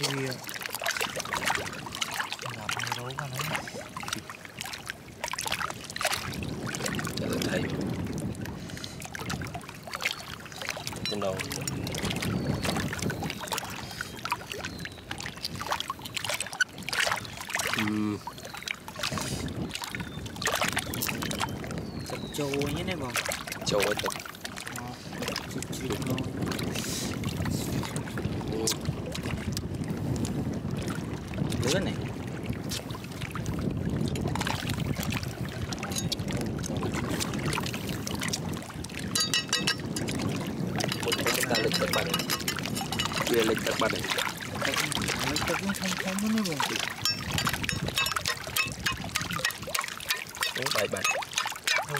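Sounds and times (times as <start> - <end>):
water lapping at shore: 0.0 - 51.9.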